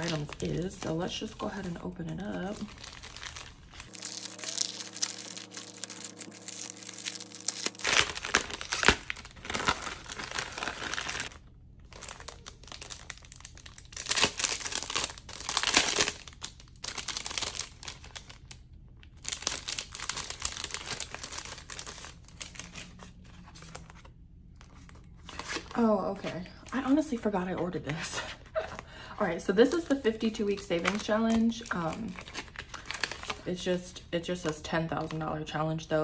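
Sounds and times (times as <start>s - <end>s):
plastic packaging crinkling: 0.0s - 25.9s, 29.7s - 33.5s.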